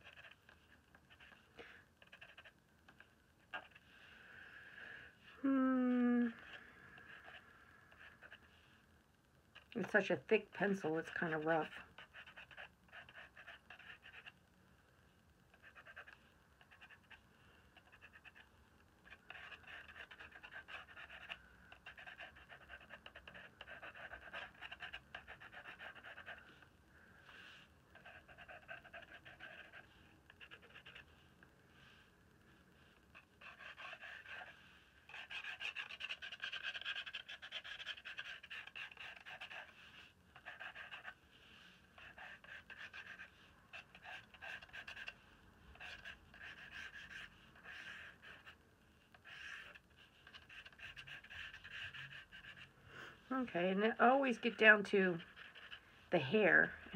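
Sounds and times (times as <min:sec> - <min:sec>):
charcoal pencil scratching paper: 0:00.0 - 0:04.1, 0:06.4 - 0:08.7, 0:09.6 - 0:14.4, 0:15.5 - 0:26.7, 0:27.3 - 0:52.7, 0:53.3 - 0:56.9.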